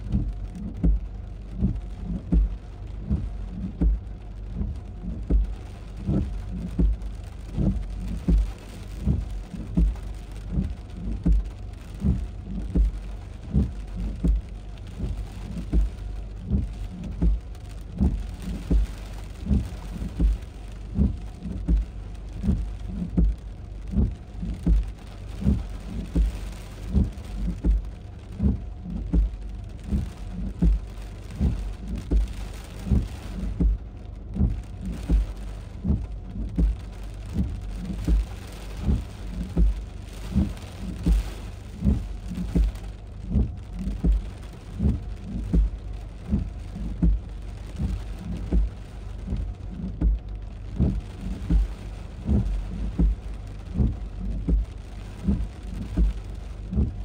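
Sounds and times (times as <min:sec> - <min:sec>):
heavy rain: 0:00.0 - 0:57.0
regular deep thump: 0:00.0 - 0:57.0.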